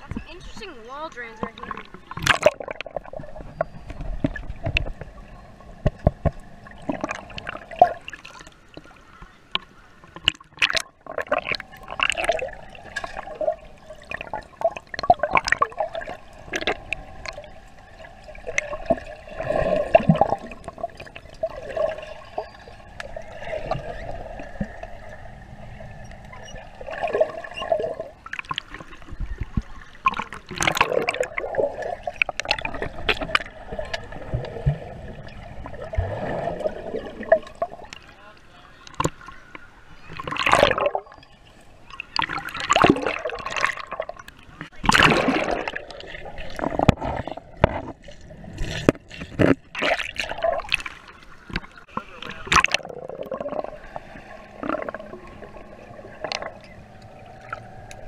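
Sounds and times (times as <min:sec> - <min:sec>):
faint steady hum: 0:00.0 - 0:58.0
water sloshing and bubbling underwater: 0:00.0 - 0:58.0.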